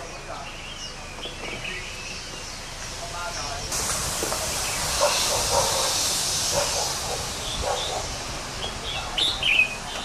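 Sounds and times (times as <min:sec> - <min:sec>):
roadside hissing rush: 0:00.0 - 0:10.0.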